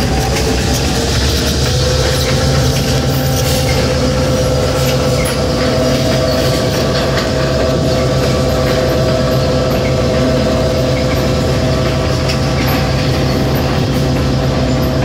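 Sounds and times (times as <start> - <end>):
diesel locomotive engine drone: 0.0 - 15.0
rail noise: 0.0 - 15.0
steady high whine: 0.0 - 15.0.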